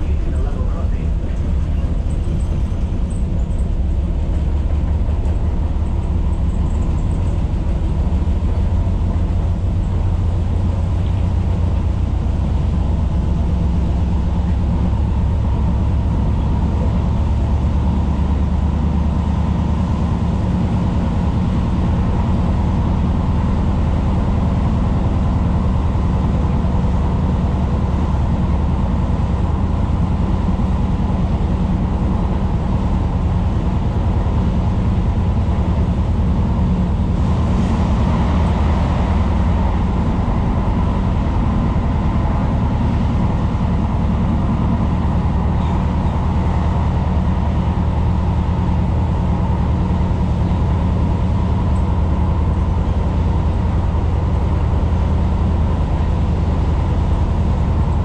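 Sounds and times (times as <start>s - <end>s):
wheels rumbling on rails: 0.0s - 58.0s.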